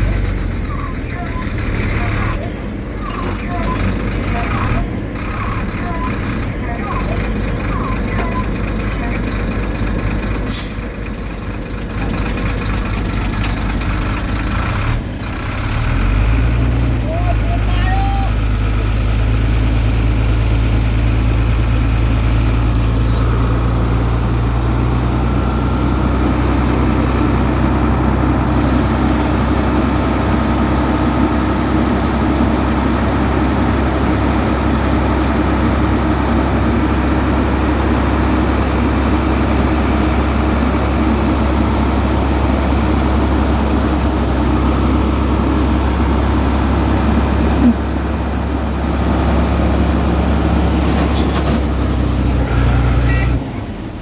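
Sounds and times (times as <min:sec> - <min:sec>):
diesel paving machinery engine drone: 0:00.0 - 0:54.0.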